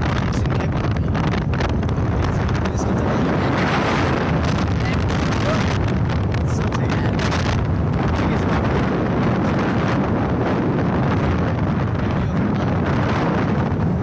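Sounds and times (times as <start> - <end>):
low rumble of moving vehicle: 0.0 - 14.0
wind rushing over microphone: 0.0 - 14.0.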